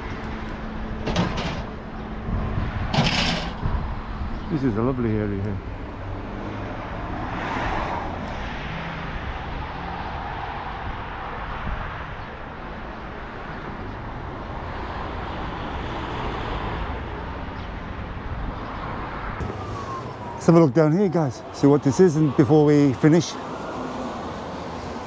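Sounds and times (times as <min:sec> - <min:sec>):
cars passing on road: 0:00.0 - 0:25.0.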